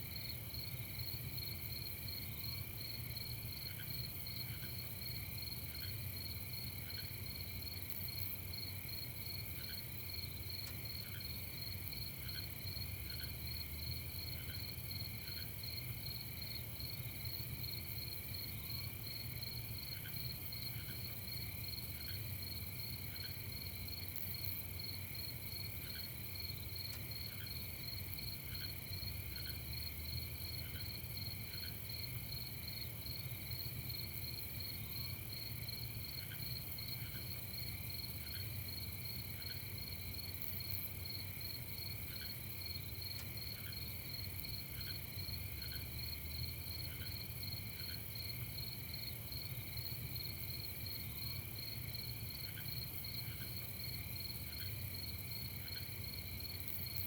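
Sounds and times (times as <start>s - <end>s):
insects chirring: 0.1s - 57.0s.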